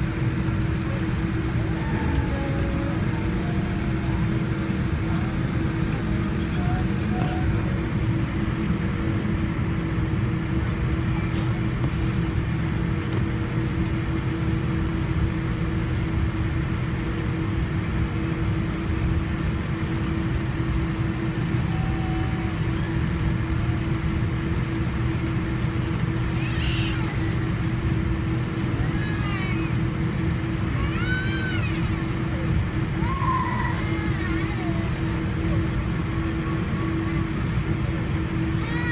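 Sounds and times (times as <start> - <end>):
airliner cabin rumble and hum: 0.0 - 38.9.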